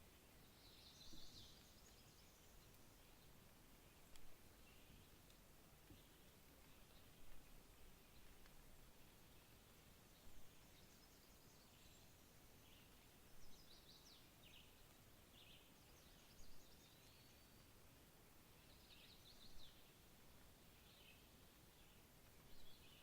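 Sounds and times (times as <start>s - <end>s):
low steady hiss: 0.0s - 23.0s.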